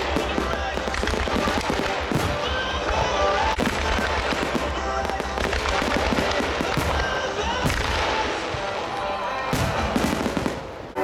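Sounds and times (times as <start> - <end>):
fireworks popping and banging: 0.0 - 8.8, 9.5 - 11.0
music playing: 0.0 - 11.0.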